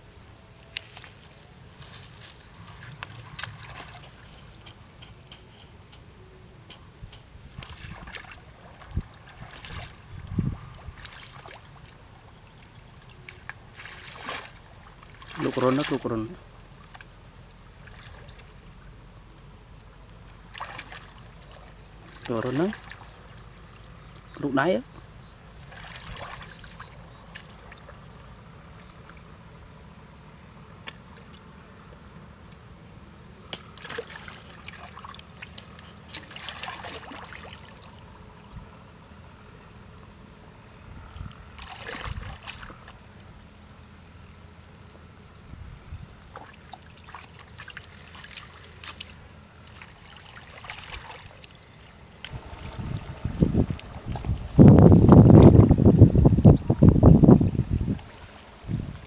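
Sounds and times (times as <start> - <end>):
muddy water sloshing and splashing: 0.4 - 5.5, 6.8 - 19.0, 19.9 - 32.2, 33.3 - 40.2, 41.0 - 59.0.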